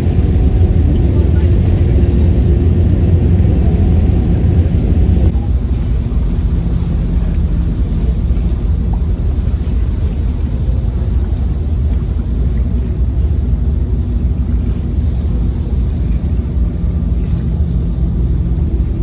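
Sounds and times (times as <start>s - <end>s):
ferry engine rumbling: 0.0s - 19.0s.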